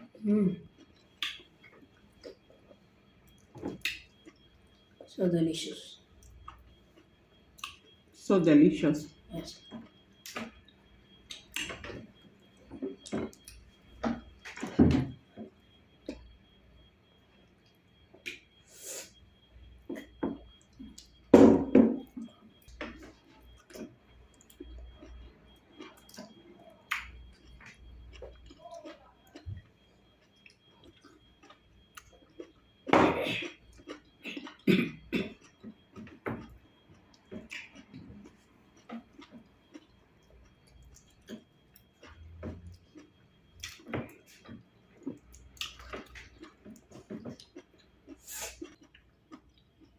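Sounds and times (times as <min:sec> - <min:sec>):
wet chewing: 0:00.6 - 0:05.1, 0:06.1 - 0:08.0, 0:09.4 - 0:16.4, 0:22.0 - 0:49.9.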